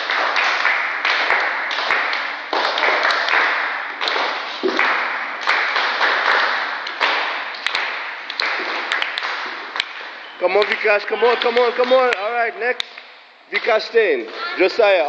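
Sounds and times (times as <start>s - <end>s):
people clapping in a beat: 0.0s - 13.0s.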